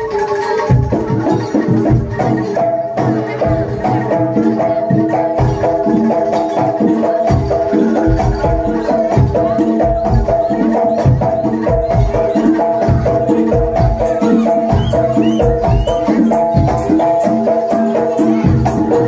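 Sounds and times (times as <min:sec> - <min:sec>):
metallophone notes: 0:00.0 - 0:19.0.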